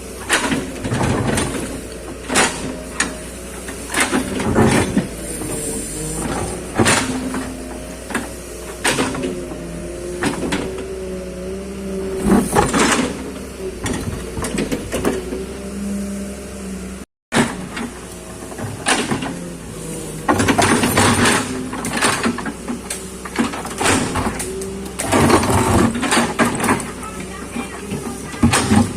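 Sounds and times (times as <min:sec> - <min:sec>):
excavator knocks and clanks: 0:00.0 - 0:16.0, 0:16.8 - 0:28.9
excavator engine hum: 0:00.0 - 0:28.9.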